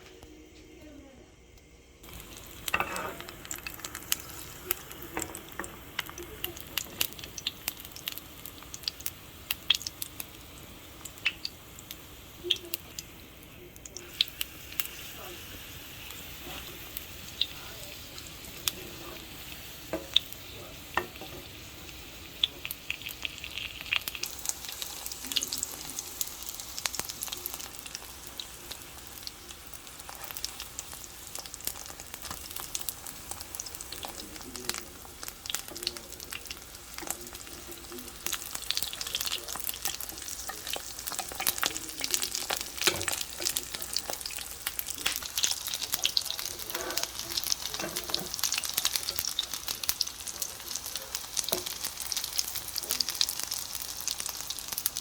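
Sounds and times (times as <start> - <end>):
food sizzling in hot oil: 2.0 - 55.0.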